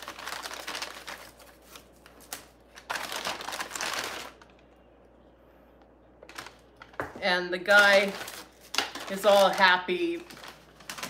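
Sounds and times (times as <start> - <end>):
paper bag rustling and crinkling: 0.0 - 4.6, 6.3 - 11.0.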